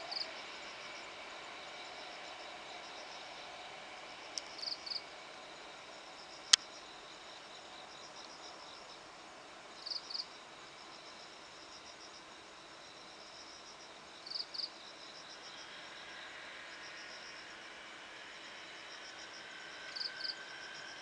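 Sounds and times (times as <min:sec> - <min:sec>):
night insects chirping: 0:00.0 - 0:21.0.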